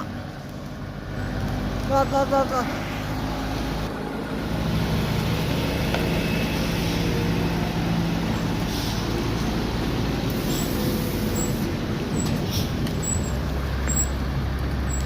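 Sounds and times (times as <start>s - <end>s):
heavy diesel truck engine labouring: 0.0s - 15.0s.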